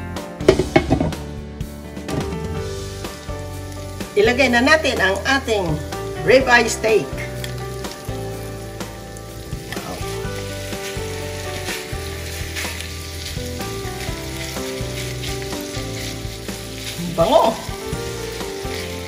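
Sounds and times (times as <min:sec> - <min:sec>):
steak sizzling in a pan: 0:00.4 - 0:01.4, 0:02.6 - 0:19.0.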